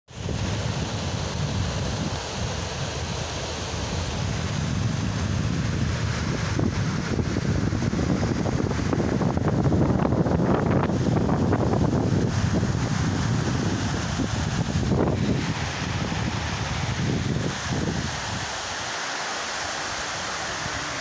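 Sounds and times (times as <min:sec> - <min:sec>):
wind rumbling on microphone: 0:00.1 - 0:19.0, 0:19.6 - 0:21.0
river rapid rushing: 0:00.2 - 0:21.0.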